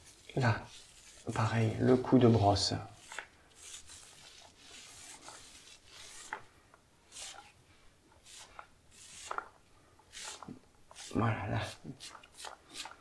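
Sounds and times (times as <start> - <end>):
paint roller swishing: 0.0 - 13.0.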